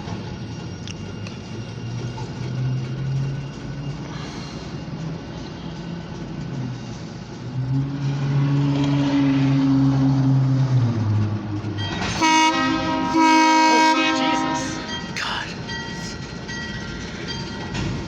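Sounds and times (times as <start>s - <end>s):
diesel locomotive engine humming: 0.0s - 17.8s.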